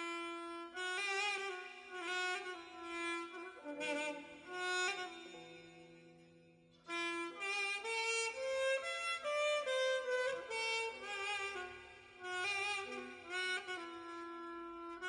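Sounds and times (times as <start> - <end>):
violin-like lead melody: 0.0 - 15.0.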